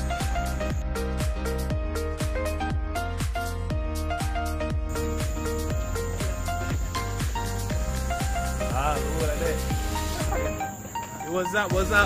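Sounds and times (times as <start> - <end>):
electronic music with synth: 0.0 - 12.0.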